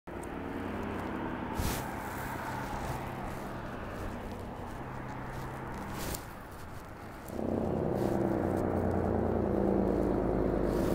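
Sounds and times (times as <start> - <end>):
fire engine running: 0.1 - 10.9.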